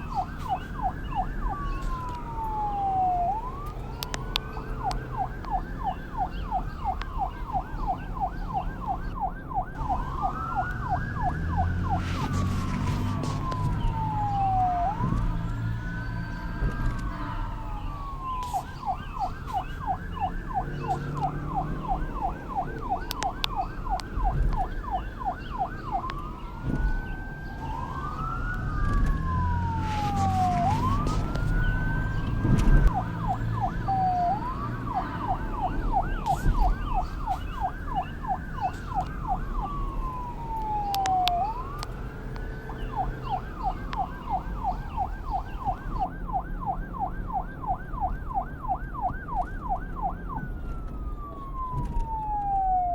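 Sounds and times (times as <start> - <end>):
police siren wail: 0.0 - 52.9
police siren yelp: 0.0 - 52.9.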